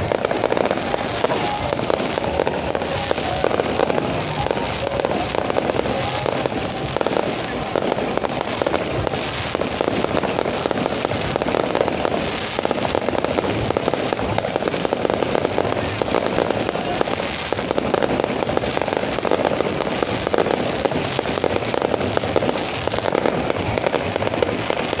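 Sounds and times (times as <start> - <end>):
fireworks crackling: 0.0 - 25.0.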